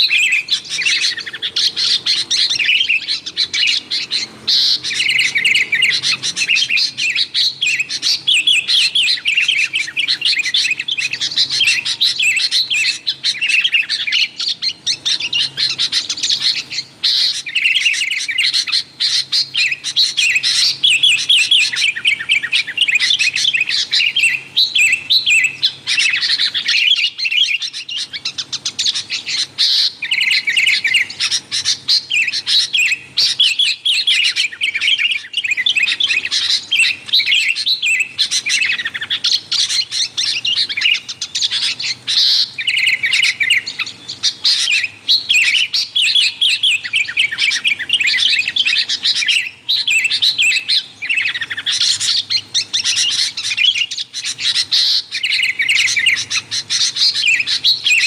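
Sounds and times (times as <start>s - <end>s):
birds chirping in chorus: 0.0s - 58.0s.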